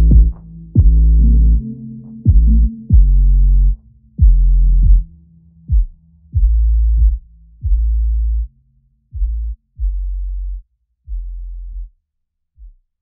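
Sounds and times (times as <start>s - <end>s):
electronic music deep bass notes: 0.0s - 11.9s.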